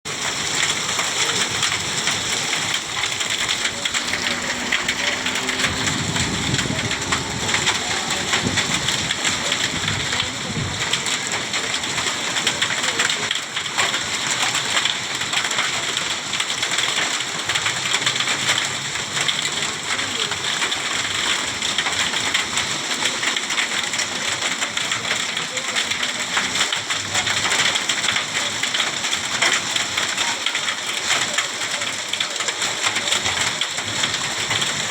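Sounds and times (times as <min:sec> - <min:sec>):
heavy rain pattering: 0:00.1 - 0:34.9.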